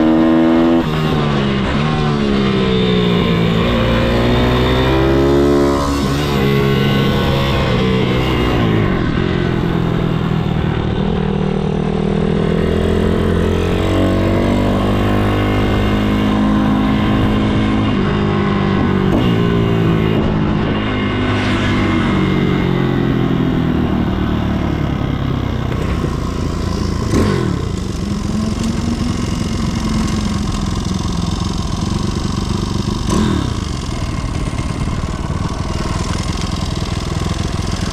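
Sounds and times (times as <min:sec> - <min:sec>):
motorbike engine revving: 0:00.0 - 0:37.9.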